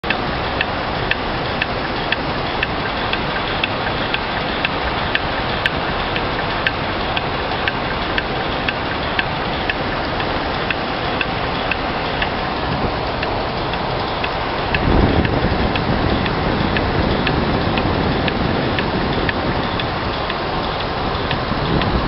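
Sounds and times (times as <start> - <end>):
machine hissing: 0.0 - 22.0.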